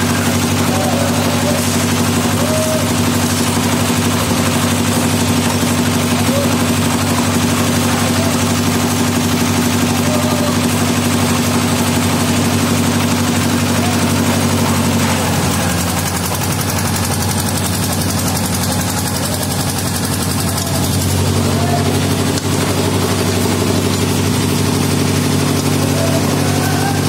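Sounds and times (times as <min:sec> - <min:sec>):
concrete mixer engine running: 0:00.0 - 0:27.0.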